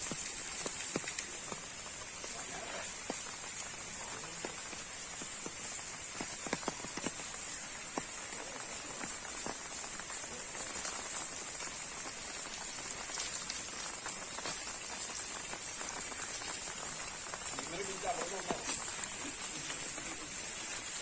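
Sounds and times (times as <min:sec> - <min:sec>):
raindrops ticking sharply: 0:00.0 - 0:21.0
steady rain falling: 0:00.0 - 0:21.0.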